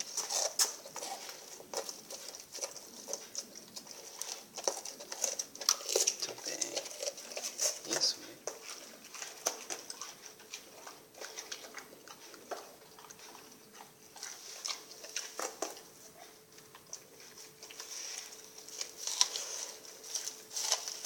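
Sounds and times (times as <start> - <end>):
dog chewing with wet crunches: 0.0 - 21.0.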